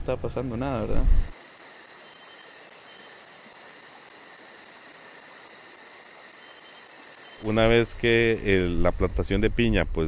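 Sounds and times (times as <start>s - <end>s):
insects buzzing: 0.1s - 10.0s
insect trill pulsing: 0.4s - 10.0s.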